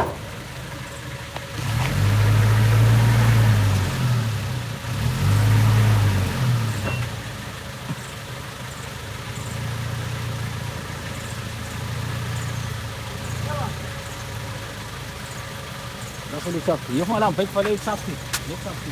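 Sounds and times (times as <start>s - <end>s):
motor vehicle engine running: 0.0s - 18.9s.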